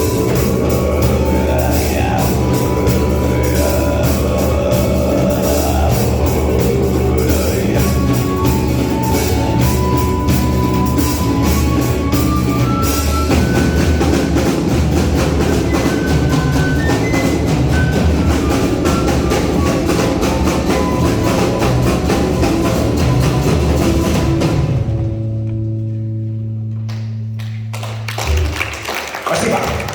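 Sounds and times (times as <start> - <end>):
high held melody line: 0.0 - 25.0
drums keeping steady beat: 0.0 - 25.3
live band playing instrumental: 0.0 - 25.9.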